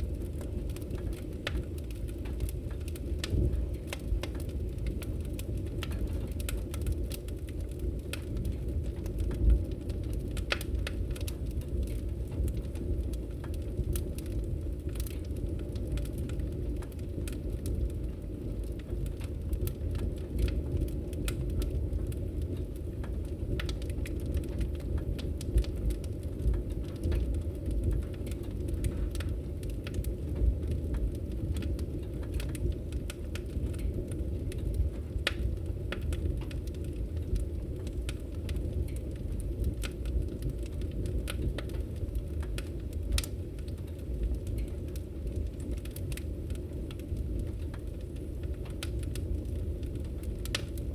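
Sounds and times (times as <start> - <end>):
fire crackling in fireplace: 0.0 - 50.9.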